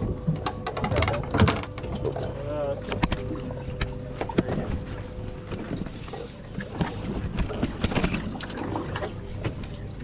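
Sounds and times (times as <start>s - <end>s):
water splashing: 0.0s - 9.8s
outboard motor idling: 0.0s - 10.0s.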